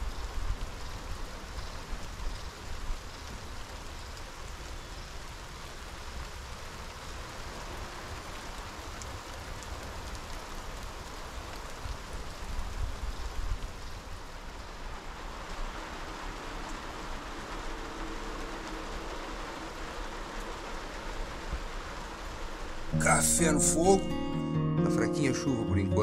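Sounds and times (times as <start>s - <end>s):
light rain on grass and trees: 0.0s - 26.0s.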